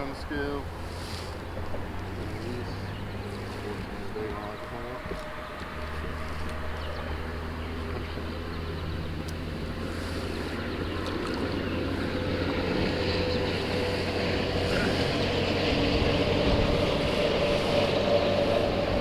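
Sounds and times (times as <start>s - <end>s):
boat motor running: 0.0s - 19.0s
water noise: 0.0s - 19.0s
wind: 0.0s - 19.0s.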